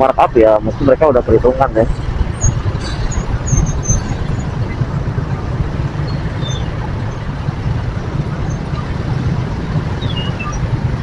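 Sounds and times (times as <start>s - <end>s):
car engines idling: 0.0s - 11.0s
motorcycle engines idling: 0.0s - 11.0s.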